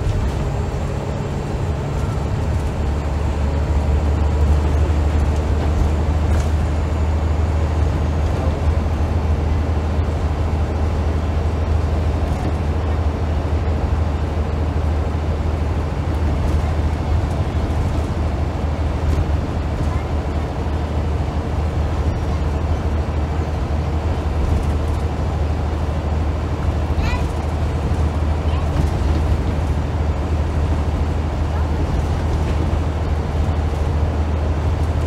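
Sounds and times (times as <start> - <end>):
bus diesel engine drone: 0.0 - 35.0
road and tyre noise: 0.0 - 35.0.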